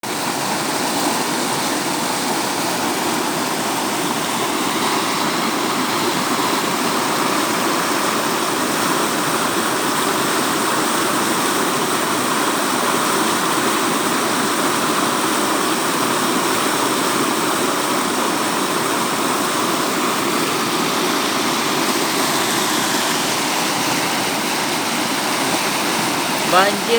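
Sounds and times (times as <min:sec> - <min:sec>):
floodwater rushing: 0:00.0 - 0:26.9.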